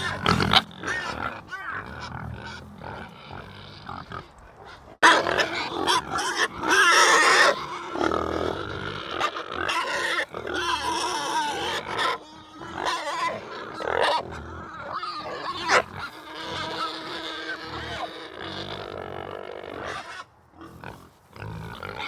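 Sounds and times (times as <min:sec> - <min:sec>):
animal calling: 0:00.0 - 0:18.8.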